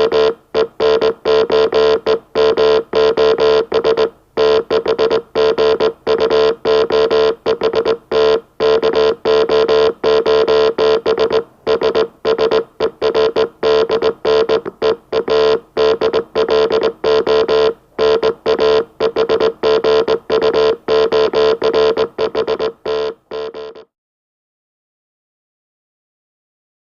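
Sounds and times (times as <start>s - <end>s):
morse code beeps: 0.0s - 23.9s.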